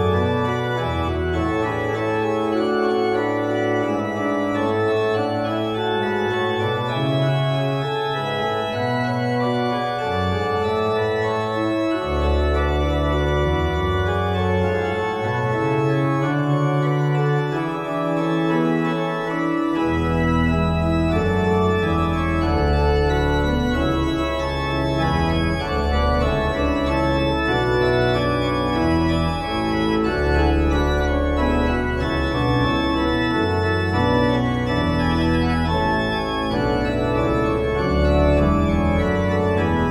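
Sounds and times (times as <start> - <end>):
church organ chords: 0.0 - 39.9
deep organ pedal bass notes: 0.0 - 39.9.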